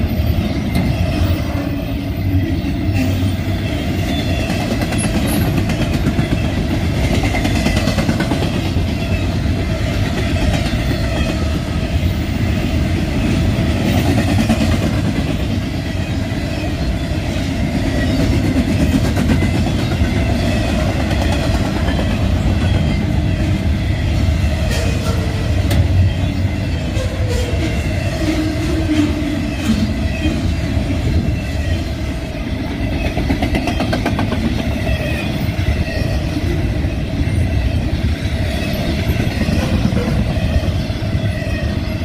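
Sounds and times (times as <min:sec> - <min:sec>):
sharp clacks of train wheels: 0:00.0 - 0:23.5, 0:24.1 - 0:30.6, 0:32.6 - 0:35.9, 0:38.0 - 0:41.3
freight train wheels rumbling: 0:00.0 - 0:42.0.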